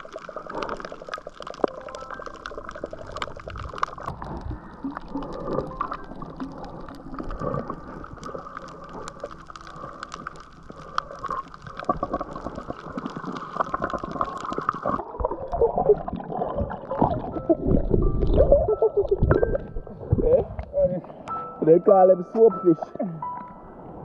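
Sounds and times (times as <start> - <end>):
bubbling around fins: 0.0 - 21.3
muffled underwater water movement: 0.0 - 21.4
small underwater clicks and crackles: 0.0 - 21.4.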